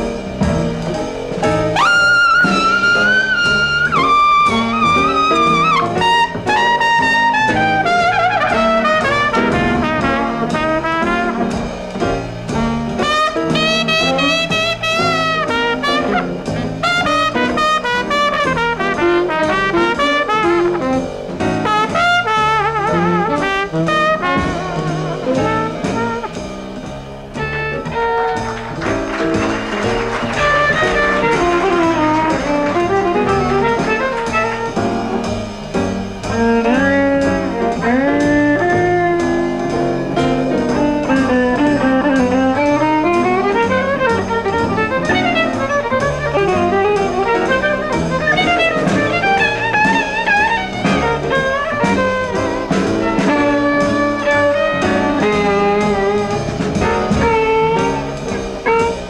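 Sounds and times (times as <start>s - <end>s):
saxophone bass and drums: 0.0s - 59.0s
trumpet solo with vibrato: 1.7s - 11.8s, 12.6s - 26.4s, 27.9s - 35.4s, 42.1s - 59.0s.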